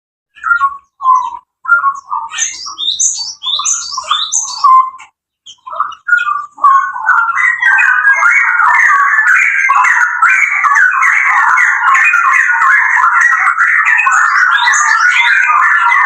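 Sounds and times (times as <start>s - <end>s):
birds singing whistled phrases: 0.3s - 16.0s.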